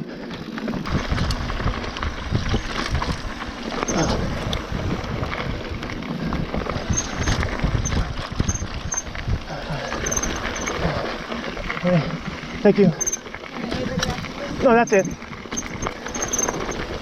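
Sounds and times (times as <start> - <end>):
tyre and wind noise: 0.0 - 17.0
bike knocks and rattles: 0.3 - 11.0, 13.0 - 17.0.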